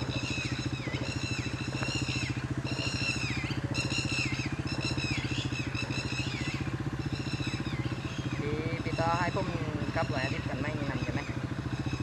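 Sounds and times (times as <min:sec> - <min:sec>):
quad bike engine idling: 0:00.0 - 0:12.0.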